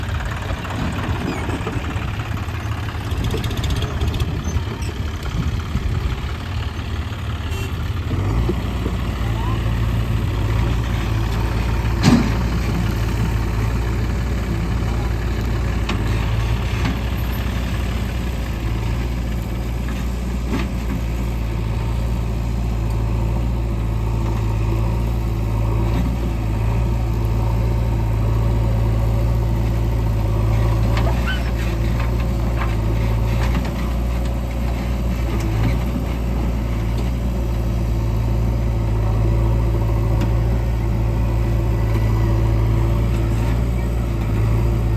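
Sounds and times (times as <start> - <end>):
heavy diesel engines running: 0.0 - 44.9.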